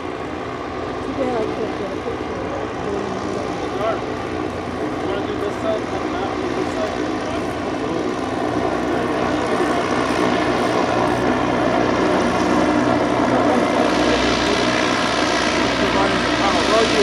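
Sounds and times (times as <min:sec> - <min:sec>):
airship engines droning: 0:00.0 - 0:17.0.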